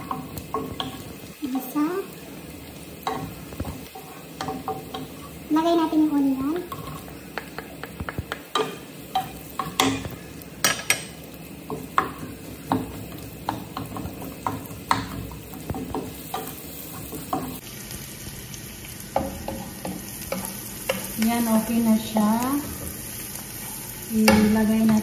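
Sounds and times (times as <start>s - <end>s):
onion sizzling in hot oil: 0.0s - 25.0s.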